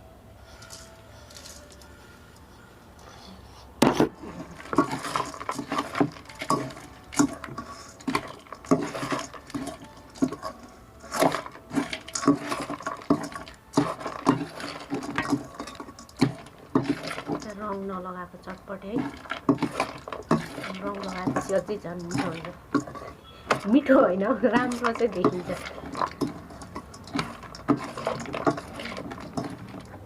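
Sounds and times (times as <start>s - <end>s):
puffed rice rustling in a bowl: 0.4s - 2.6s, 4.2s - 30.0s.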